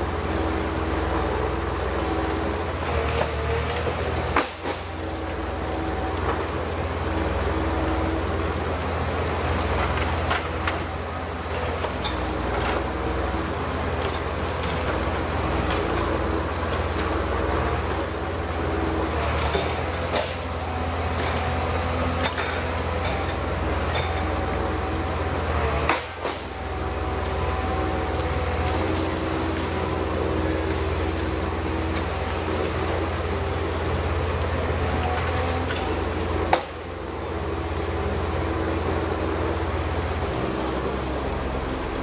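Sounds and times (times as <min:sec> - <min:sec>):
heavy machine engine running: 0:00.0 - 0:42.0.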